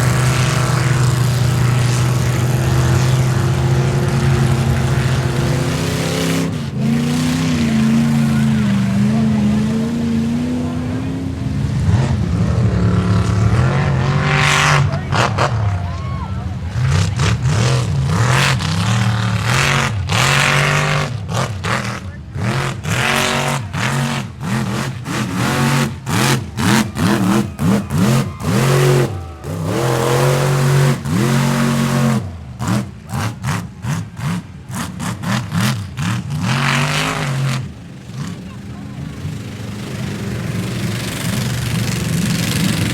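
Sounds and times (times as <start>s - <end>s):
pickup engine revving hard: 0.0s - 42.9s.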